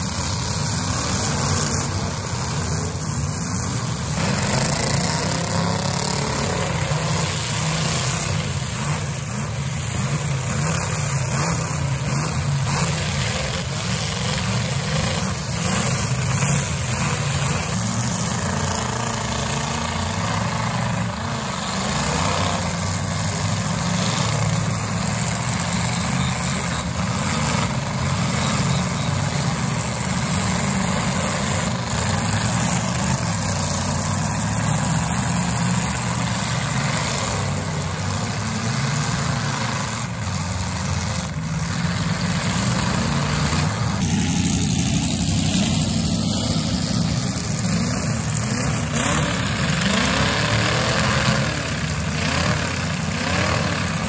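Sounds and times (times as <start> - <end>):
car engines running: 0.0 - 54.0.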